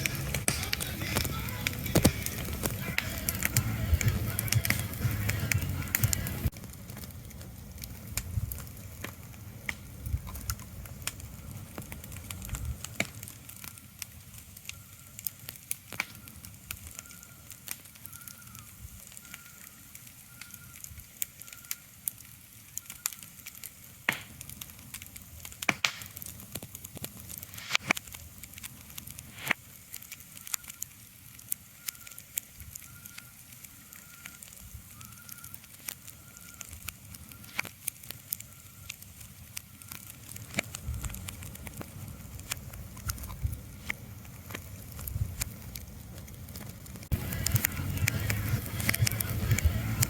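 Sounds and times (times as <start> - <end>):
crackles and sharp clicks: 0.0 - 50.0.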